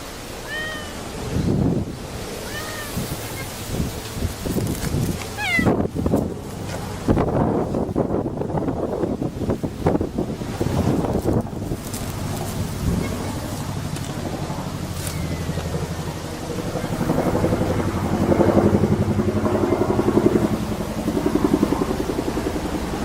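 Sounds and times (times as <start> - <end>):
engine humming: 0.0 - 23.0
wind noise: 0.0 - 23.0.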